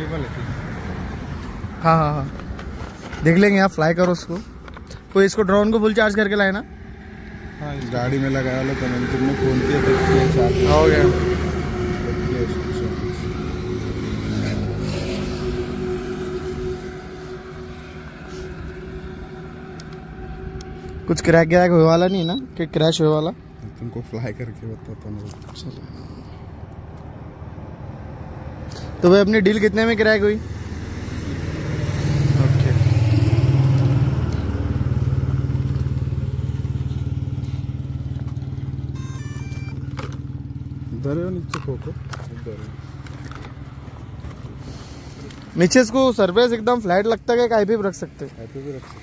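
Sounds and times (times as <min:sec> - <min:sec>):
engine hum: 0:00.0 - 0:49.0.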